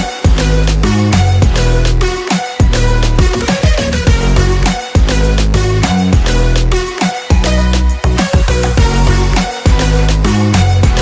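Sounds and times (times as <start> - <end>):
pop music with heavy bass: 0.0 - 11.0.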